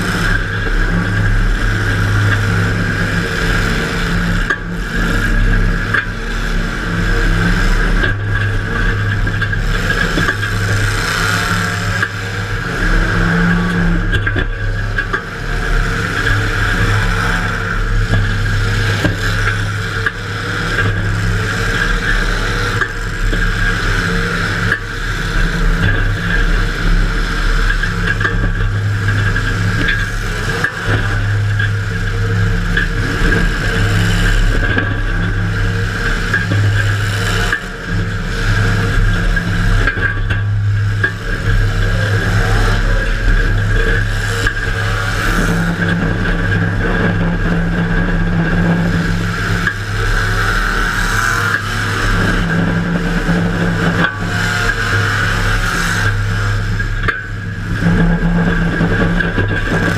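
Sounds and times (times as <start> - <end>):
car engine running loud: 0.0 - 59.9
knocks and scraping: 0.0 - 59.9.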